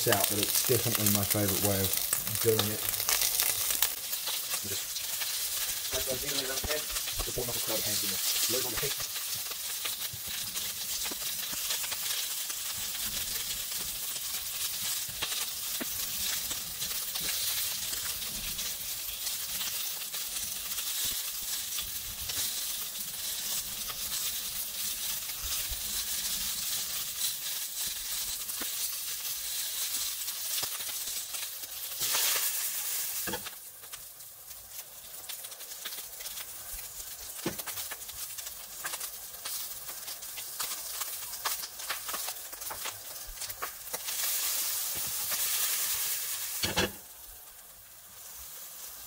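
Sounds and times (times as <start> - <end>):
squid sizzling in a frying pan: 0.0 - 49.0.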